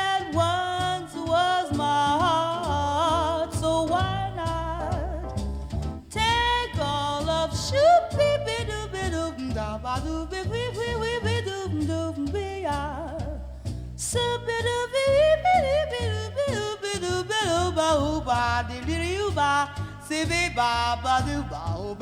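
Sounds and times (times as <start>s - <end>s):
swing jazz over loudspeakers: 0.0s - 22.0s.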